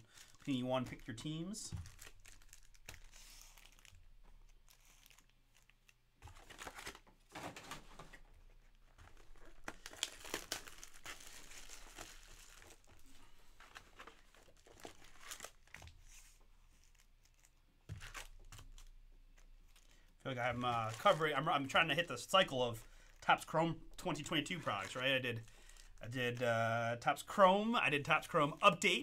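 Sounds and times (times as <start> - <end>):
plastic wrap crinkling and tearing: 0.0 - 26.4.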